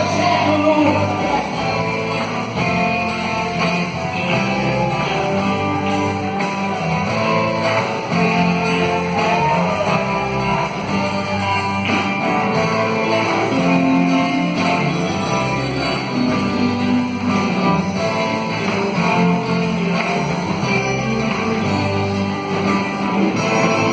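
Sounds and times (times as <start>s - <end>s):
bass and drums: 0.0s - 23.9s
strummed guitar: 0.0s - 23.9s.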